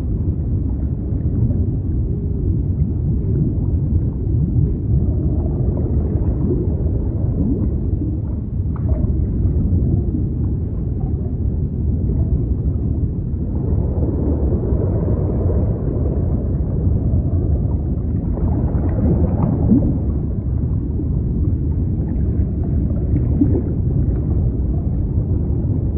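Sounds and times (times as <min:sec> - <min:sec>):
deep underwater rumble: 0:00.0 - 0:25.9.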